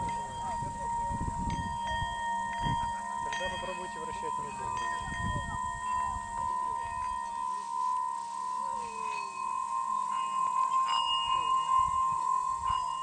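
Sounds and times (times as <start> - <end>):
higher bowl tones ringing: 0.0 - 13.0
singing bowl steady tone: 0.0 - 13.0.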